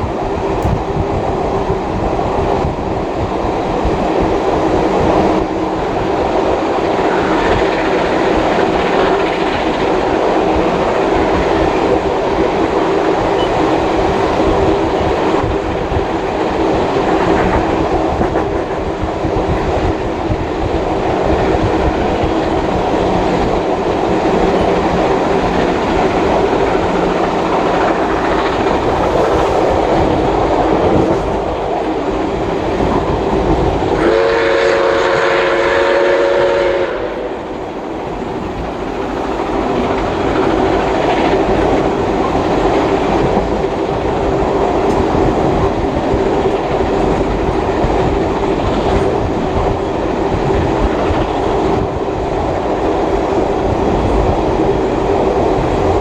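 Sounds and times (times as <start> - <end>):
clickety-clack over rail joints: 0.0 - 35.5, 36.9 - 56.0
train wheels rumbling on rails: 0.0 - 56.0.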